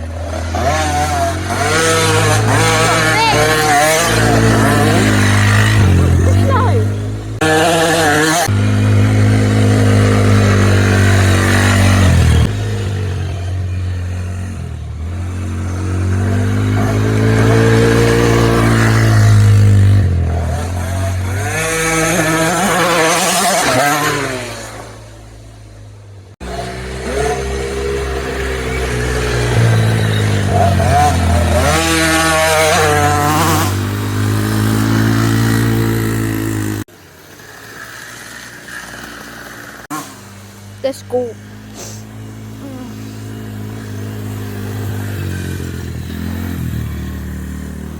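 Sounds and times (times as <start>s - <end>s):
dirt bike engine: 0.0s - 47.9s.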